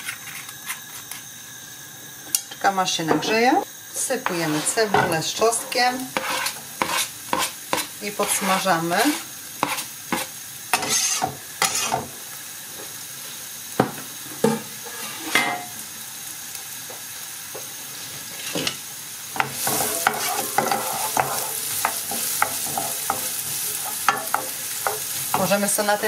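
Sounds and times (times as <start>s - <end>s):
onion sizzling in a frying pan: 0.0s - 26.0s.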